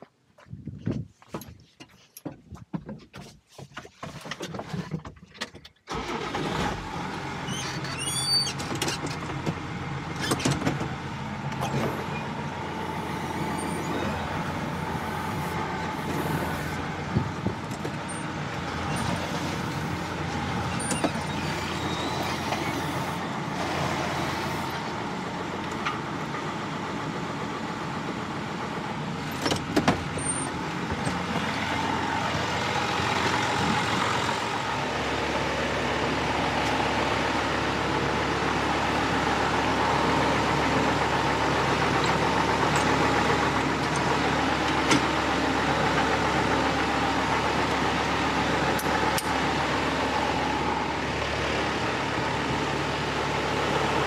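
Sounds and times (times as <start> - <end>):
tractor diesel engine running: 4.5 - 54.0.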